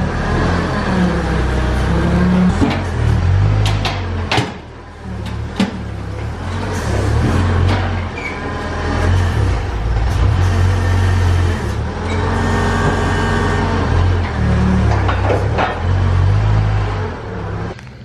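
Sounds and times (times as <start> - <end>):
forklift engine running: 0.0 - 18.0.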